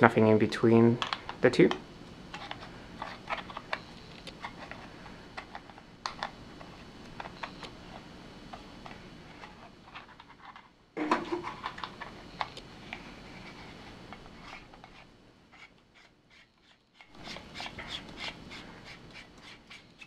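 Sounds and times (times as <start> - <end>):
plastic parts rubbing and clicking: 2.3 - 8.0, 8.8 - 20.0.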